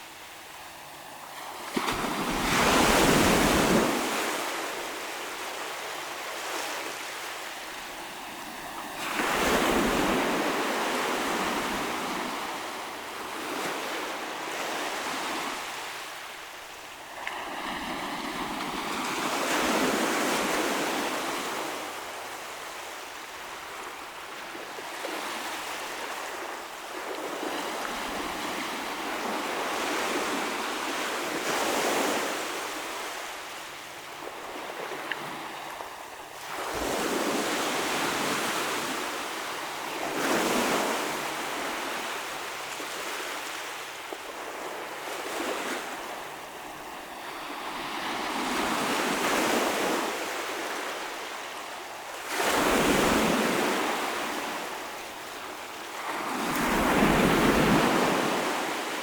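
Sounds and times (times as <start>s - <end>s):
waves breaking on a shoreline: 0.0s - 59.0s.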